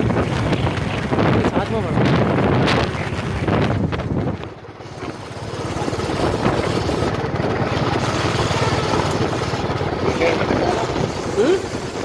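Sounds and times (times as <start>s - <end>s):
vehicle engine on rough dirt track: 0.0s - 12.0s.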